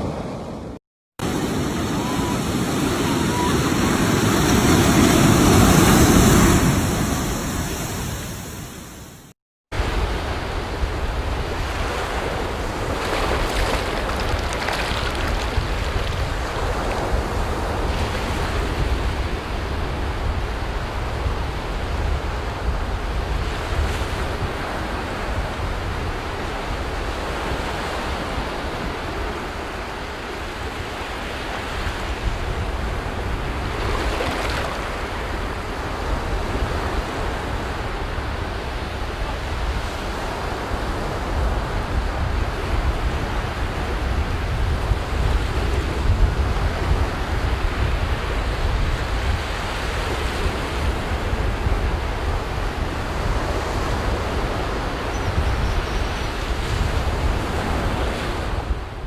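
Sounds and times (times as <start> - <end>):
ocean waves breaking on beach: 0.0 - 59.0
wind on microphone: 9.8 - 29.9, 30.6 - 59.0.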